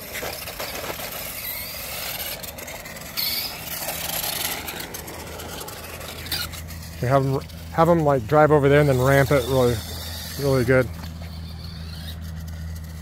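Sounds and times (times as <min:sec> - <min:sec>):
plastic tyres rattling on pavement: 0:00.0 - 0:13.0
toy car motor whirring: 0:00.0 - 0:13.0.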